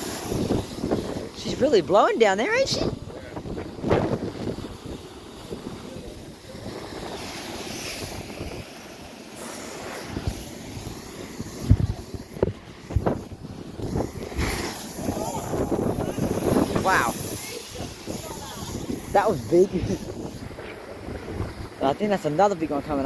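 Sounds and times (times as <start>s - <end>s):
sea water surging through blowhole: 0.0s - 23.0s
wind on microphone: 0.0s - 23.0s.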